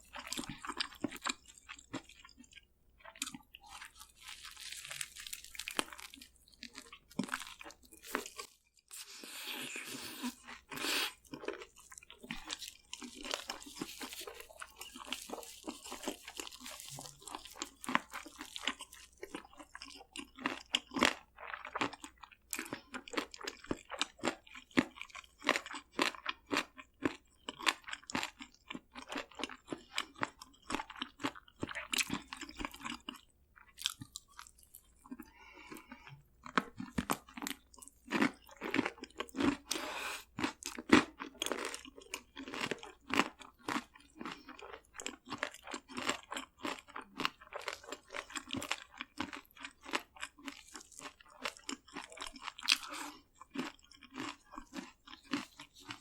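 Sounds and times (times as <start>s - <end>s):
crunching and chewing crispy food: 0.0s - 56.0s.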